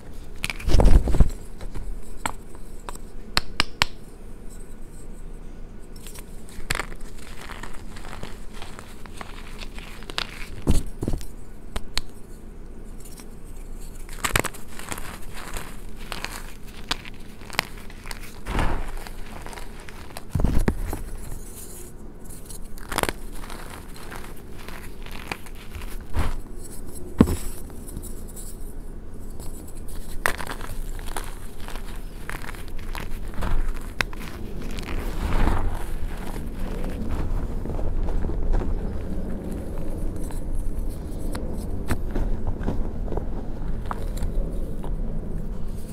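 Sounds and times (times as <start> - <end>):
chalk crunching and crackling: 0.0 - 4.0, 6.0 - 12.3, 13.0 - 45.9
chalk pieces cracking: 0.2 - 4.0, 6.0 - 12.2, 13.0 - 28.6, 29.3 - 45.0.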